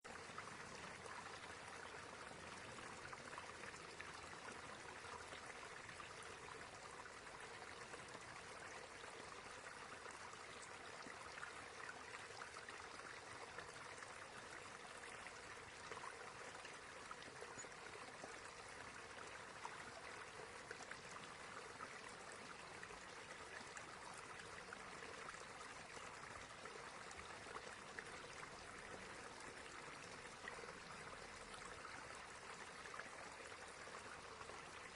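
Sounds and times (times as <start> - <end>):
small stream running: 0.0 - 34.9.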